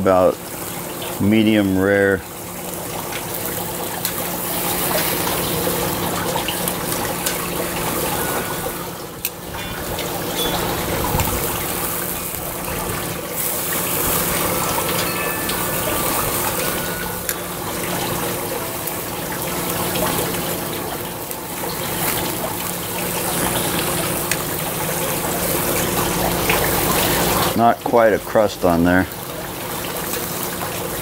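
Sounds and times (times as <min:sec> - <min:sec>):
steaks sizzling on a grill: 0:00.0 - 0:31.0.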